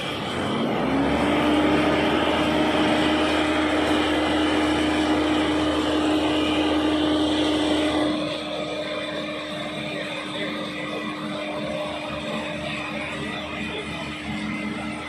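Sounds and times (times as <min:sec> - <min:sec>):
machine engine whining: 0:00.0 - 0:15.0.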